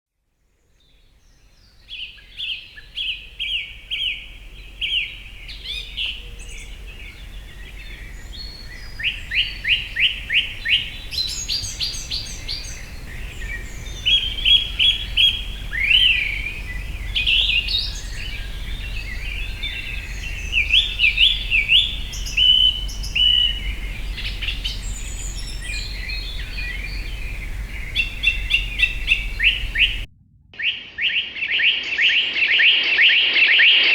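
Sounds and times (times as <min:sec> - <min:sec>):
songbirds chirping and trilling: 0:01.2 - 0:32.4
steady low rumble: 0:01.8 - 0:32.4.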